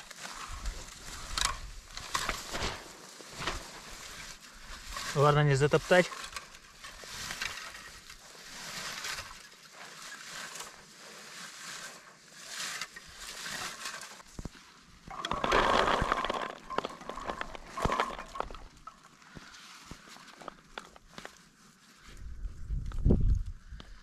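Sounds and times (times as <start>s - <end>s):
rustling and crunching of shrubs: 0.0s - 24.0s.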